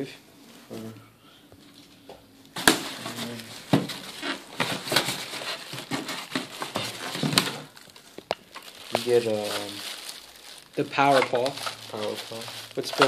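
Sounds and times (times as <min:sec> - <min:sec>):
plastic and cardboard rustling: 0:01.6 - 0:13.0.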